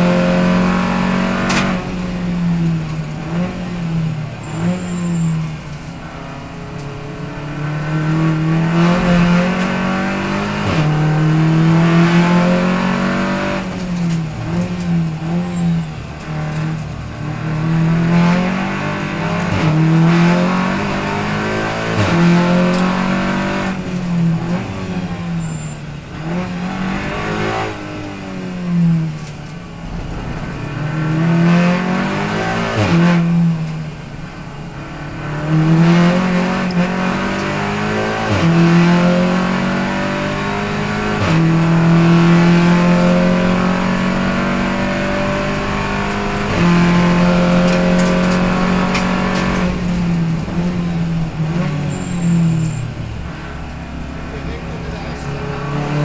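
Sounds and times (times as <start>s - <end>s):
racing car engine revving: 0.0s - 33.9s, 34.8s - 56.0s
sharp cracks at gear changes: 0.1s - 56.0s.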